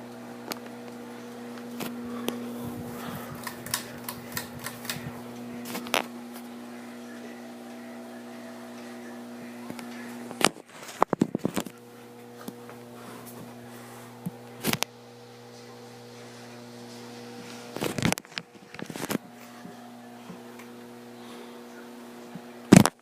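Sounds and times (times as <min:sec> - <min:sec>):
ceiling fan motor humming: 0:00.0 - 0:23.0.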